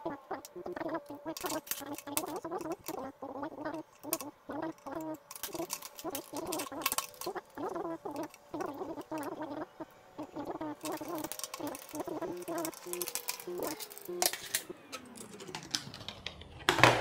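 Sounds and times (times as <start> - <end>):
chickens clucking: 0.0 - 15.7.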